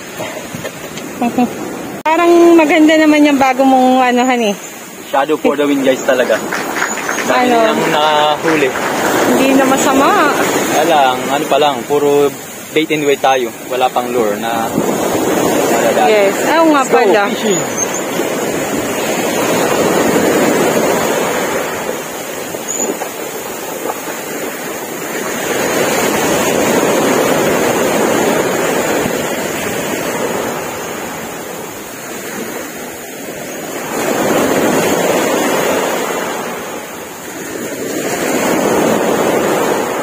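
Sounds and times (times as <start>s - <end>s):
waves breaking on beach: 0.0s - 40.0s.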